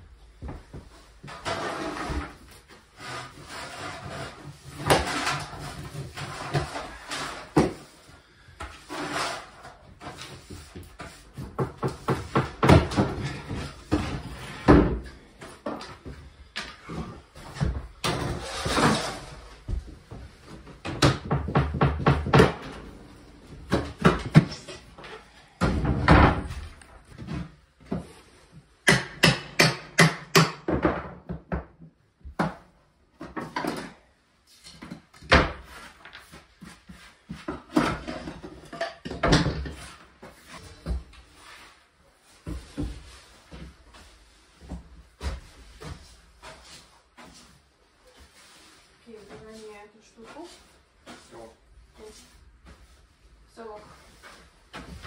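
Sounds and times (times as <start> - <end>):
vinyl flooring scraping and clattering: 0.2 - 28.8, 30.6 - 55.0.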